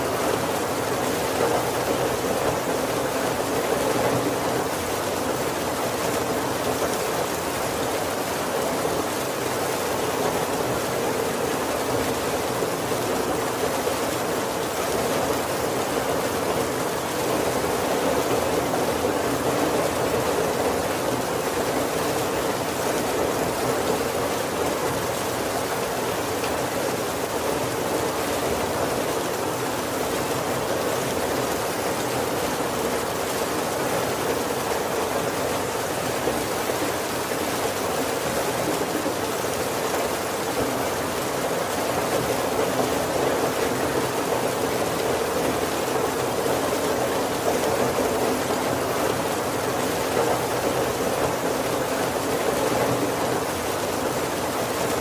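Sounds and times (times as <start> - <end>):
heavy rain on a wooden roof: 0.0 - 55.0.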